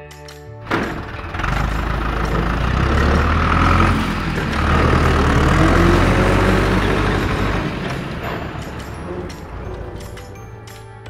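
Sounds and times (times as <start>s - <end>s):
heavy truck engine revving: 0.6s - 10.7s.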